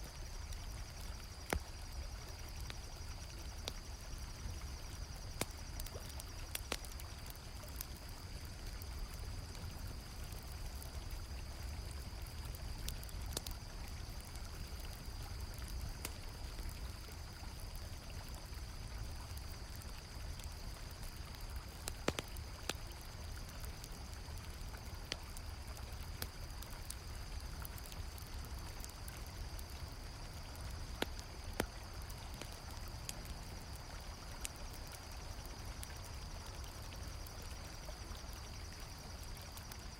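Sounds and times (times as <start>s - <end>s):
campfire crackling pops: 0.0s - 39.9s
cricket trill: 0.0s - 39.9s.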